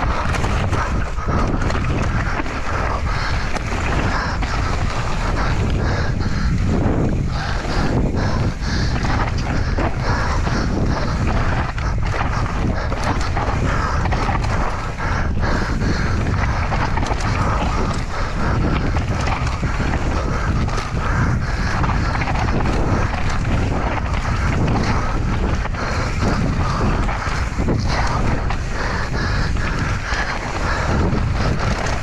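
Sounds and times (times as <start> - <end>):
bike chain and frame rattling: 0.0 - 32.0
bike tyres rumbling over dirt: 0.0 - 32.0
wind on microphone: 0.0 - 32.0.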